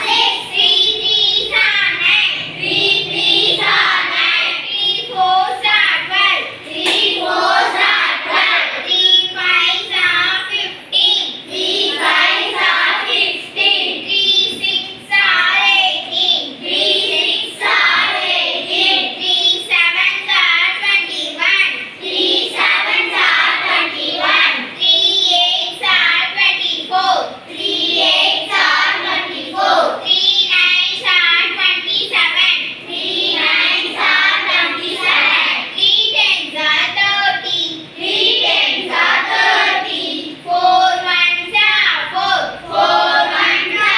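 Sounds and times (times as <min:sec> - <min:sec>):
girls chanting together: 0:00.0 - 0:43.9.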